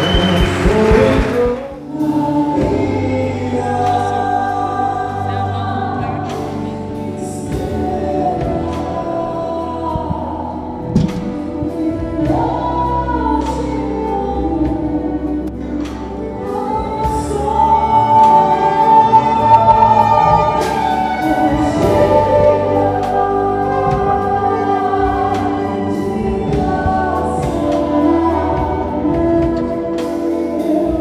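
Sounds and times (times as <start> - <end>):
choir singing a hymn: 0.0 - 31.0.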